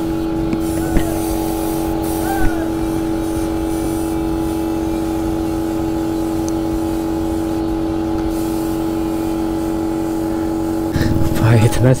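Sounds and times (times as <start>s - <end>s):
air compressor humming: 0.0s - 12.0s
spray gun hissing: 0.0s - 12.0s.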